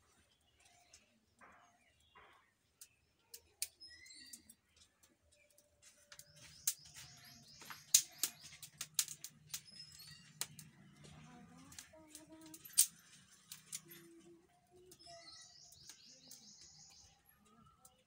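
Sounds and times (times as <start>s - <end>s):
small birds chirping: 0.0s - 18.0s
twig fire crackling: 2.7s - 18.0s.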